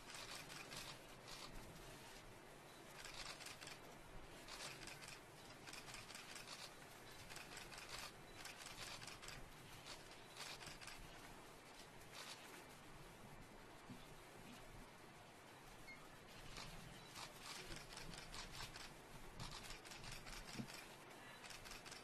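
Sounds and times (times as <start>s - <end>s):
faint hiss and crackle: 0.0s - 22.0s.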